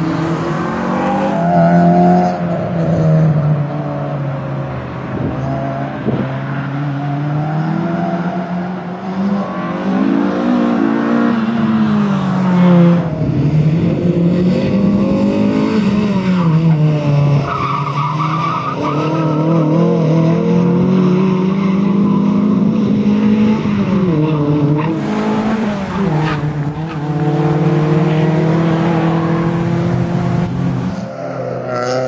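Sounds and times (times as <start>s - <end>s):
car engine at high revs: 0.0s - 32.0s.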